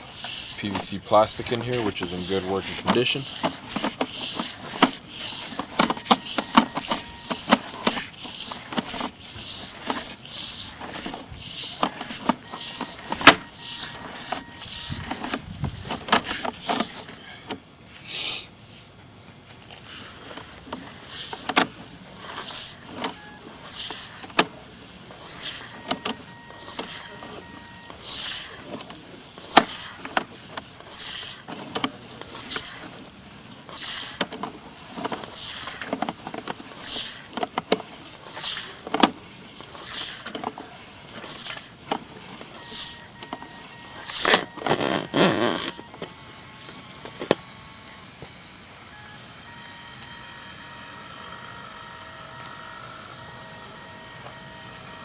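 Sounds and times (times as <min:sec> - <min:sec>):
cable scraping and rattling in pipe: 0:00.0 - 0:17.2, 0:19.5 - 0:48.4.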